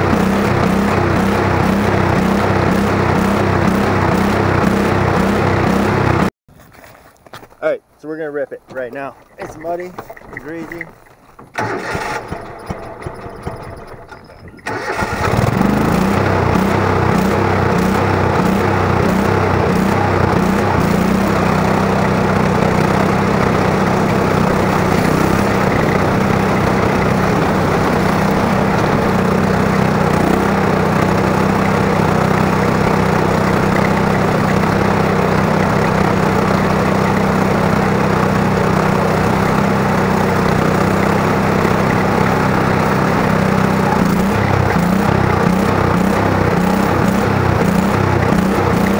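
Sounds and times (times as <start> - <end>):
lawn tractor engine running: 0.0 - 6.3, 8.7 - 48.9.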